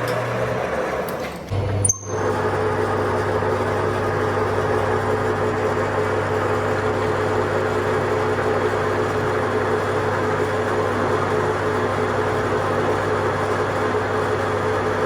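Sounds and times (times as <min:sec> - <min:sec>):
workshop machine motor humming: 0:00.0 - 0:15.0.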